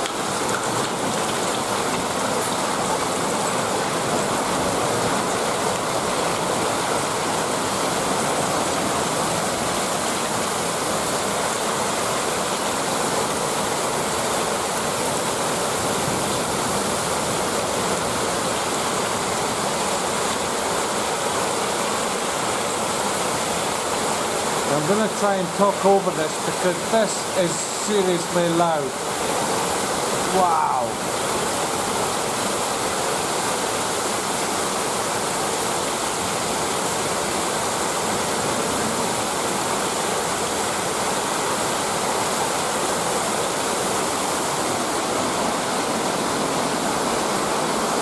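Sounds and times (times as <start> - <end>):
torrential rain pouring: 0.0 - 48.0.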